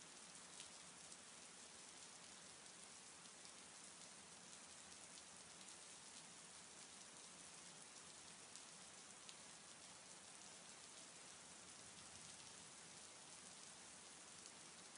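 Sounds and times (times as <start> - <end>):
faint steady rain: 0.0 - 14.9.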